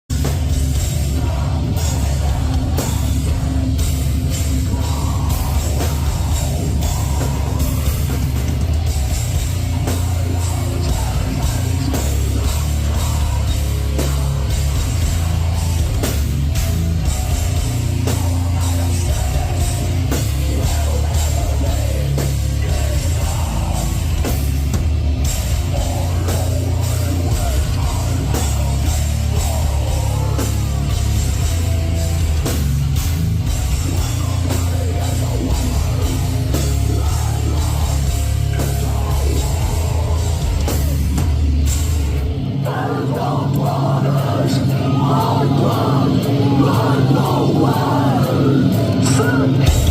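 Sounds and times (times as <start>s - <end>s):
distorted guitars and bass: 0.0s - 49.9s
rapid pounding drums: 0.0s - 49.9s.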